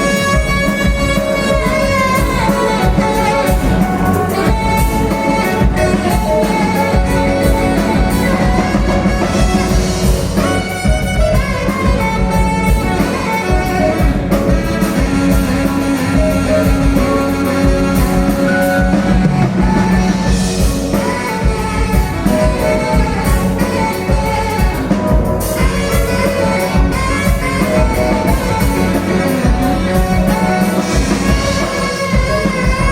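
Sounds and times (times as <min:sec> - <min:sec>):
live band playing rock jam: 0:00.0 - 0:32.9.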